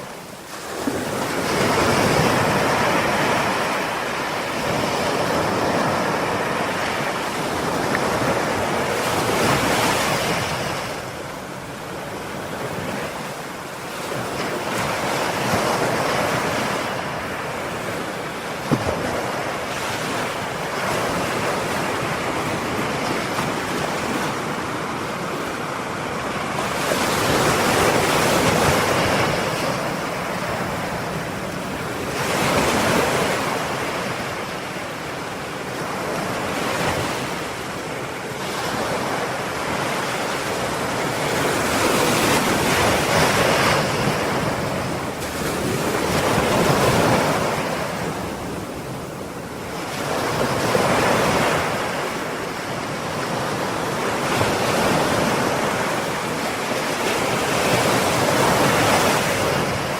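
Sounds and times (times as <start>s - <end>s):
ocean surf on a shore: 0.0s - 59.9s
wind: 0.0s - 59.9s.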